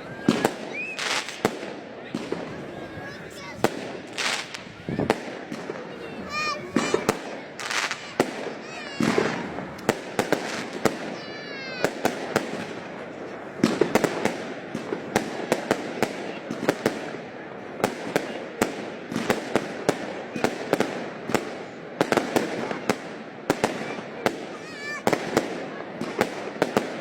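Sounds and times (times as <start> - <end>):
firework crackle: 0.0 - 27.0.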